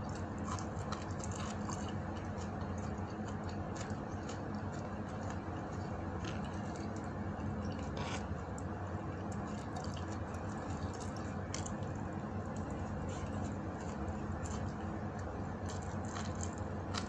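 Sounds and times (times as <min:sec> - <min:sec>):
soft wet squishes: 0:00.0 - 0:17.0
steady low hum: 0:00.0 - 0:17.0.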